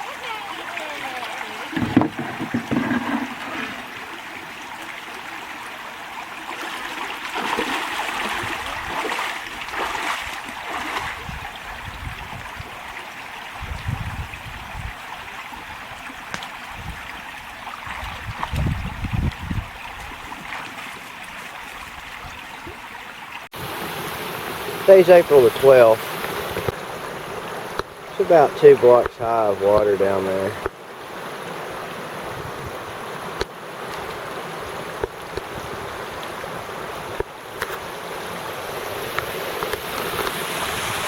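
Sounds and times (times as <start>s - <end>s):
creek water running: 0.0s - 41.0s.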